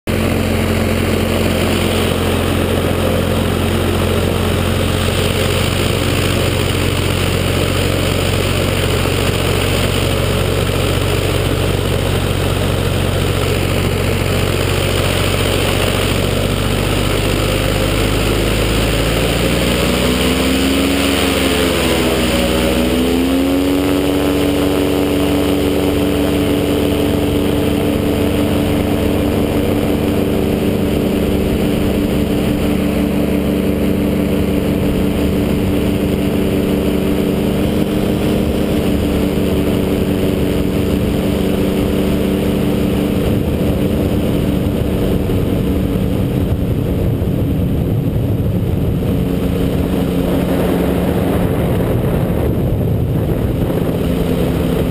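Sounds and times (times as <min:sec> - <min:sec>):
ultralight aircraft engine and propeller: 0:00.0 - 0:54.9.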